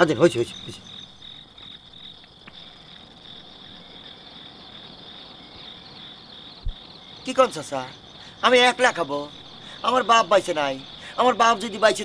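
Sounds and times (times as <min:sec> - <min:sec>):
night insects chirping: 0:00.0 - 0:12.0.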